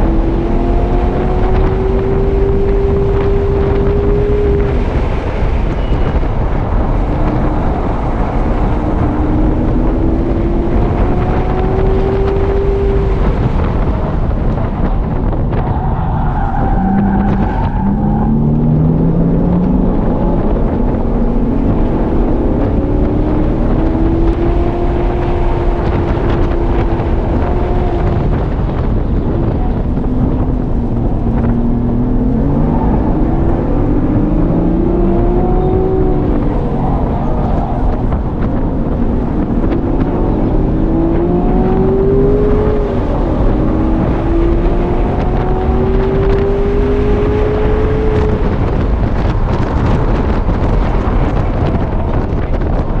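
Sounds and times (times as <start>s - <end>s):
sports car engine accelerating: 0.0s - 53.0s
wind and road noise: 0.0s - 53.0s.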